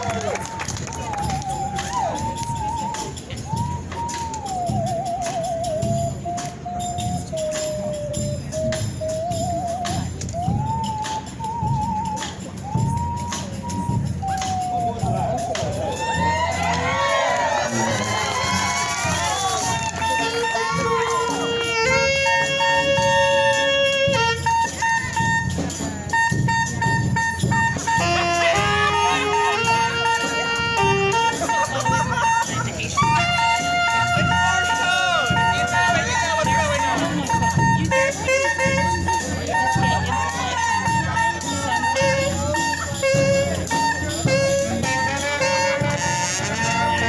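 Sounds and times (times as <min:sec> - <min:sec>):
brass band playing: 0:04.7 - 0:47.0.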